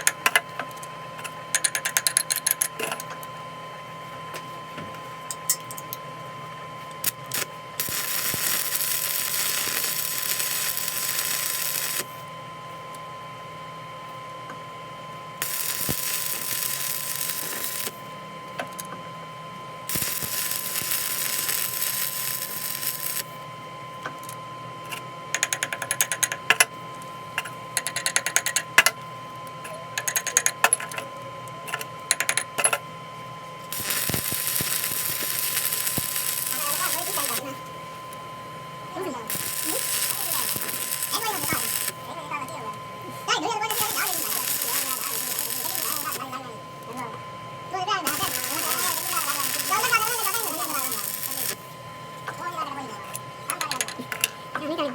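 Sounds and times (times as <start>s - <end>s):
steady machine hum: 0.0s - 54.9s.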